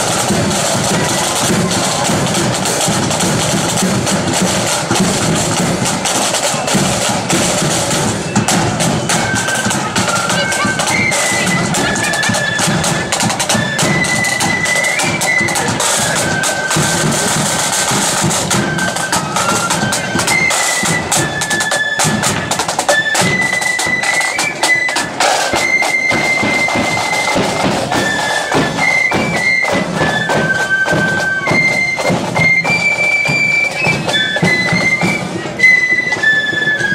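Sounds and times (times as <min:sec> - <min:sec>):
flutes playing melody: 0:00.0 - 0:36.9
rattling snare drums: 0:00.0 - 0:36.9.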